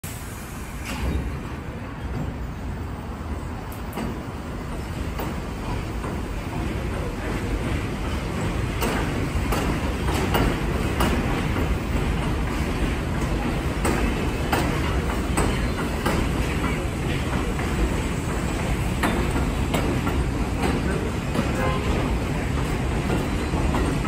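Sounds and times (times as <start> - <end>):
subway train rumbling past: 0.0 - 24.0
train wheels clacking on rail joints: 0.8 - 2.8, 3.5 - 24.0.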